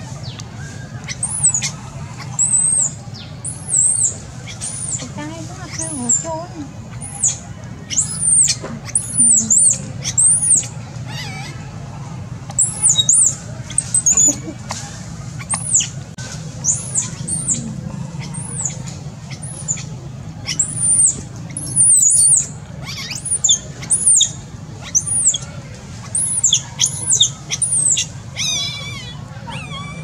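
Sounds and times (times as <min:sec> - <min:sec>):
baby monkey squealing: 0:00.8 - 0:06.3, 0:06.9 - 0:11.7, 0:12.5 - 0:14.6, 0:15.4 - 0:16.0, 0:16.6 - 0:30.0
wavering cry: 0:00.8 - 0:11.9, 0:16.6 - 0:30.0.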